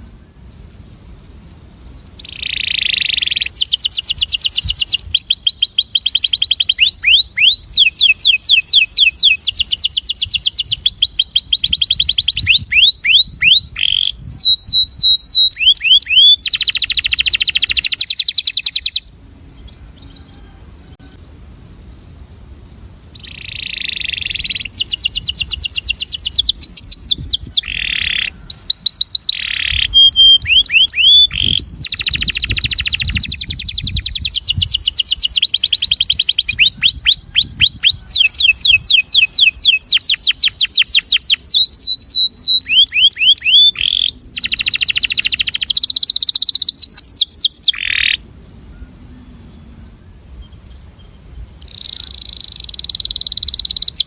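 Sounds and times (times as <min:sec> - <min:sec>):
canary singing trills: 0:00.0 - 0:21.8, 0:22.8 - 0:54.0.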